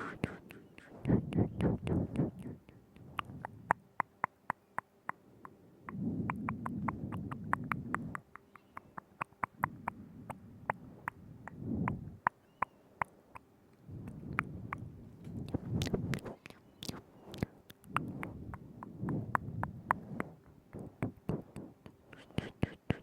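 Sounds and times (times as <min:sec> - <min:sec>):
soft low mouth noise: 0:00.0 - 0:23.0
tongue clicks and lip smacks: 0:00.0 - 0:23.0.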